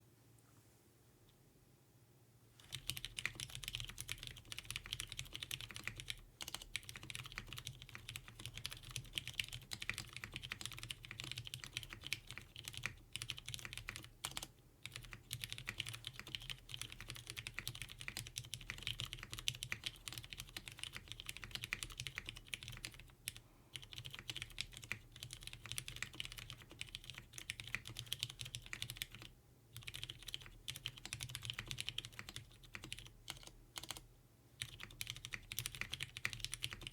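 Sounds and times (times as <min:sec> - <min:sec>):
mechanical keyboard typing: 0:02.6 - 0:34.0, 0:34.6 - 0:36.9.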